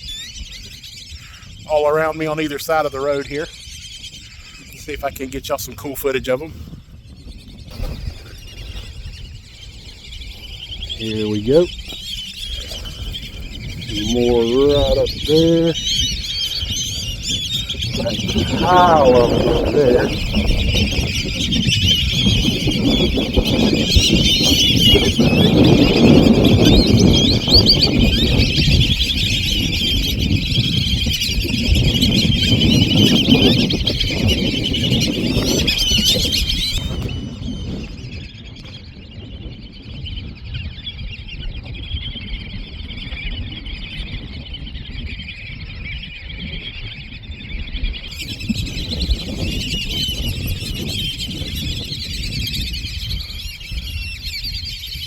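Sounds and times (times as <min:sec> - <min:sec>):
flock of ducks whistling: 0:00.0 - 0:06.4, 0:07.2 - 0:39.1, 0:39.8 - 0:55.0.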